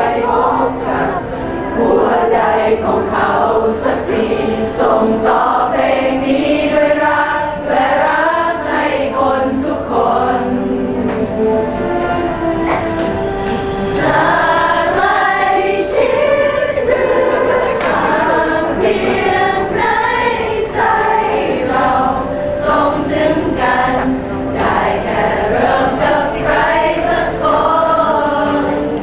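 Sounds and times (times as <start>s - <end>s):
group of voices singing: 0.0s - 29.0s.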